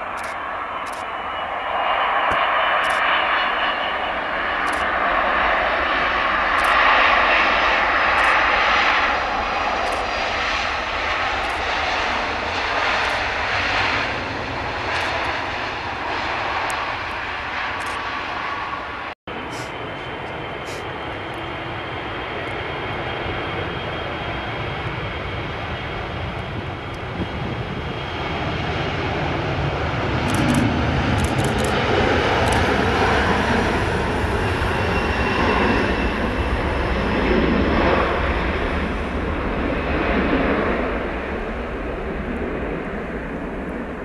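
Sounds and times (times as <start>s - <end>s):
jet engines roaring at takeoff: 0.0s - 44.0s
thin jet engine whine: 0.0s - 44.0s.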